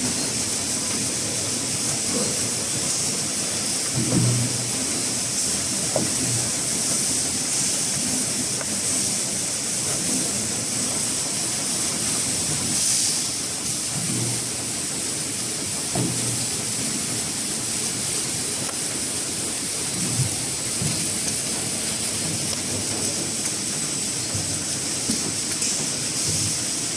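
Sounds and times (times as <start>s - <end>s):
packing machine hissing: 0.0s - 26.9s.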